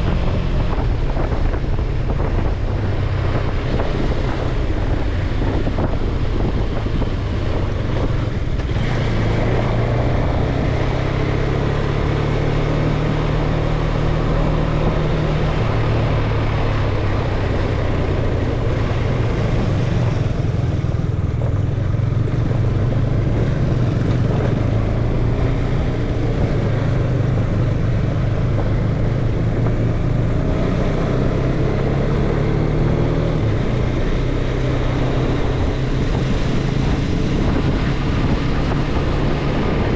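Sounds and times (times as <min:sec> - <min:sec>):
steady low drone: 0:00.0 - 0:39.9
wind rushing over microphone: 0:00.0 - 0:39.9.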